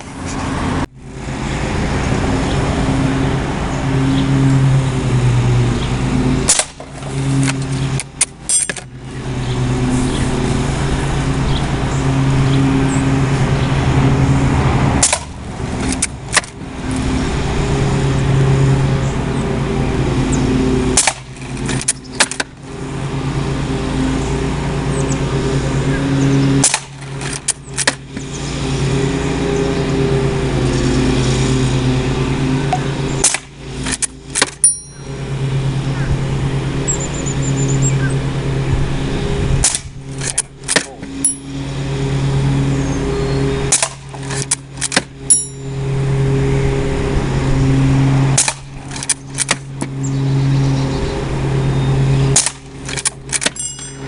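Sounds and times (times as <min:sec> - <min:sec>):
motor drone: 0:00.0 - 0:54.0.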